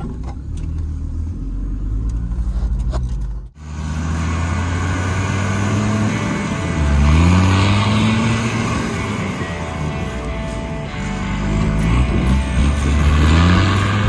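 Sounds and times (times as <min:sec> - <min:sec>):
engine droning and revving: 0:00.0 - 0:14.0.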